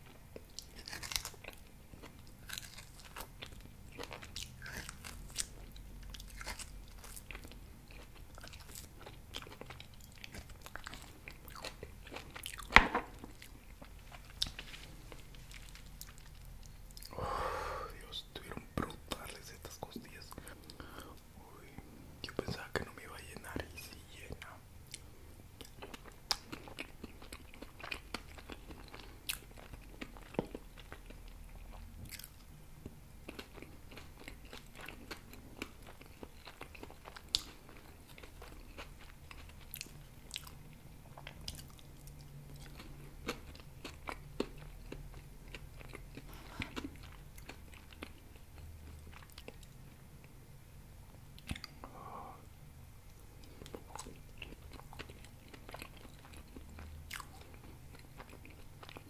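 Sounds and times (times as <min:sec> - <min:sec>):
person chewing with wet smacks: 0:00.0 - 0:17.1, 0:17.9 - 0:50.4, 0:51.1 - 0:51.9, 0:53.0 - 0:59.0
faint steady low hum: 0:00.0 - 0:59.0.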